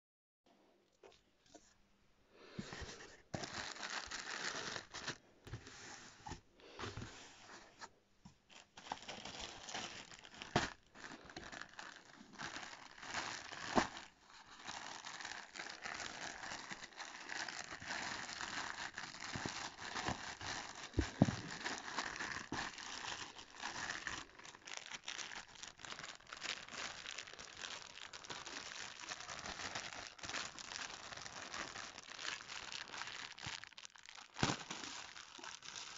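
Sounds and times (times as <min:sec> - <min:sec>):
plastic bag crinkling: 0:03.4 - 0:05.2, 0:08.5 - 0:35.9.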